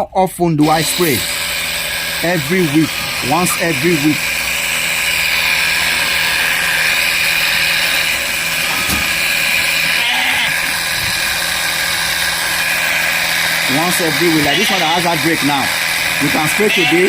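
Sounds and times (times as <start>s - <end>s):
motorized spray machine running: 0.6s - 17.0s.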